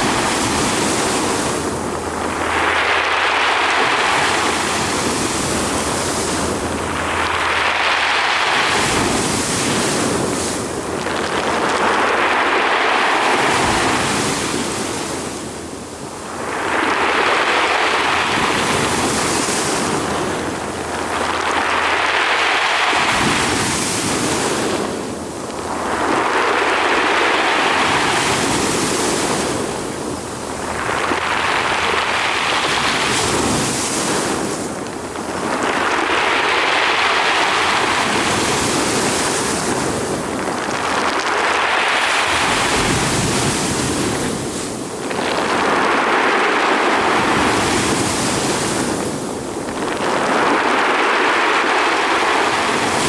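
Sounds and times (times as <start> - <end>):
surf breaking on shore: 0.0 - 53.0.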